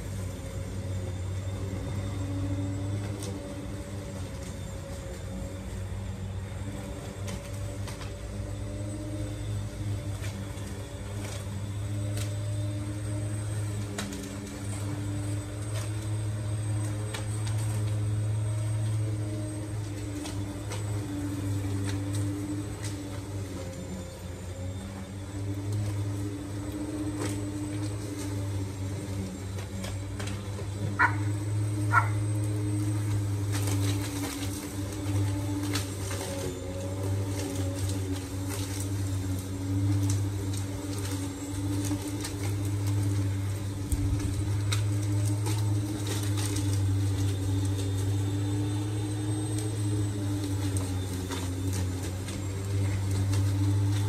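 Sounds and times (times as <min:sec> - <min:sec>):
electric lawn mower hum: 0:00.0 - 0:54.0.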